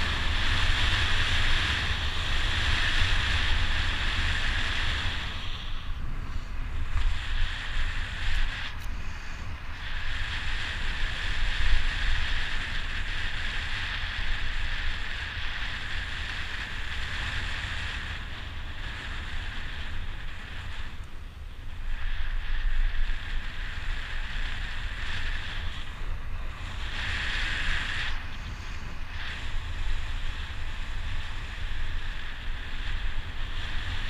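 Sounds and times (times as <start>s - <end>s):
steady high hiss: 0.0s - 34.0s
wind buffeting microphone: 0.0s - 34.0s.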